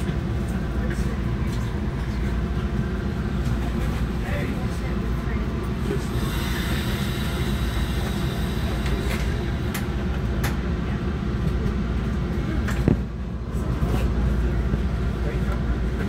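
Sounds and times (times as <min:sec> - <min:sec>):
train coach low rumble: 0:00.0 - 0:16.0.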